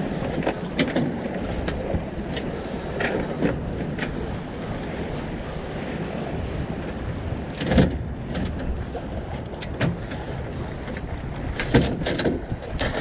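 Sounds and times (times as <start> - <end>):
water along boat hull: 0.0 - 13.0
wind on microphone: 0.0 - 13.0.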